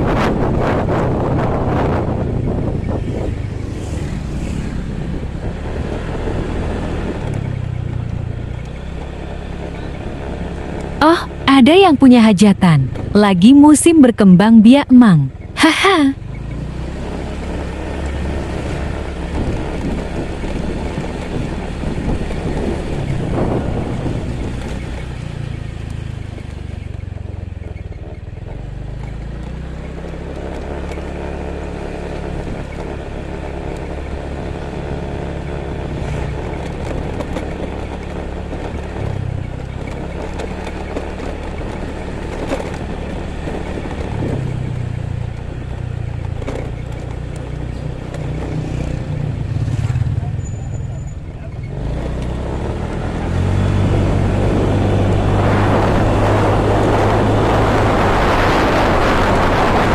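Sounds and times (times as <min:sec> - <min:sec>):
motorcycle engine running: 0:00.0 - 0:59.9
road noise: 0:00.0 - 0:59.9
wind: 0:00.0 - 0:59.9.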